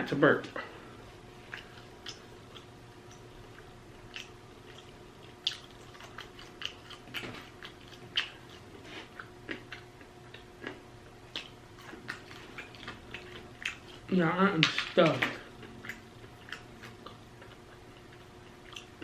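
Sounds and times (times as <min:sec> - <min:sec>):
person chewing food: 0:00.9 - 0:14.1, 0:15.2 - 0:19.0.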